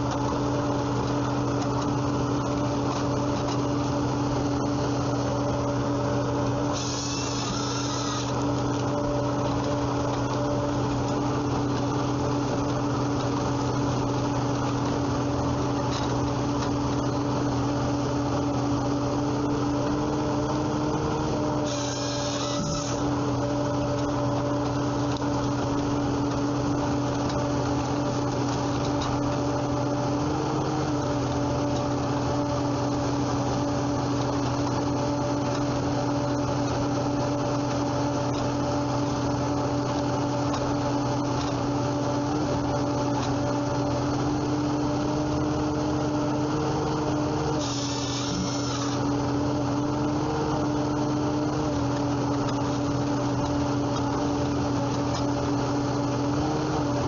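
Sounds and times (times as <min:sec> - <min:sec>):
woodworking machine humming: 0:00.0 - 0:57.0.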